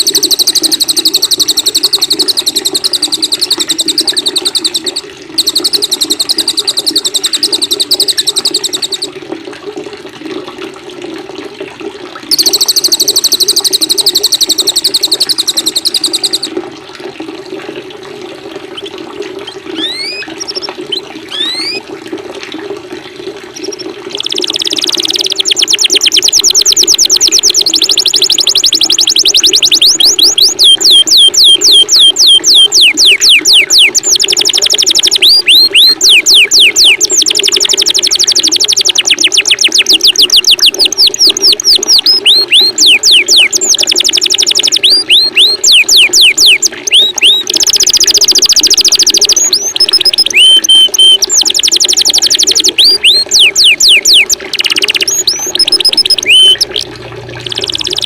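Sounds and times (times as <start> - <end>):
songbirds singing: 0.0 - 9.1, 12.3 - 16.5, 19.5 - 21.8, 23.6 - 37.6, 38.8 - 47.9, 48.7 - 56.8, 57.4 - 58.0
running water: 0.0 - 58.0.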